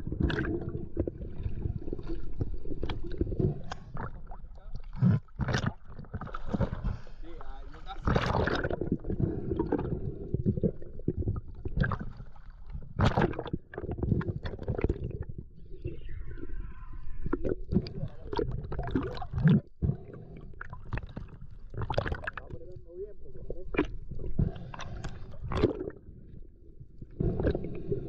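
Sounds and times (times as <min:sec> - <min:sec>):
water splashing and gurgling: 0:00.0 - 0:07.1, 0:08.0 - 0:19.8, 0:20.5 - 0:28.0.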